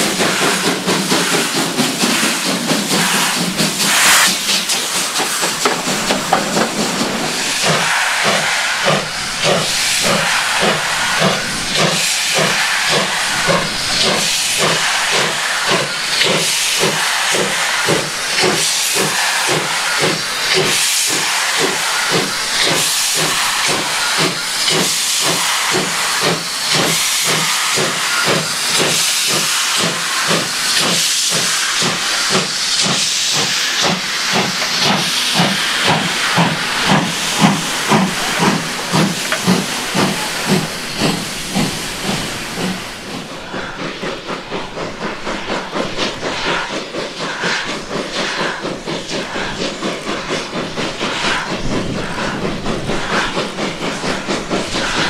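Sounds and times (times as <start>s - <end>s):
steam escaping hiss: 0.0s - 55.0s
steam locomotive chuffing: 0.0s - 55.0s.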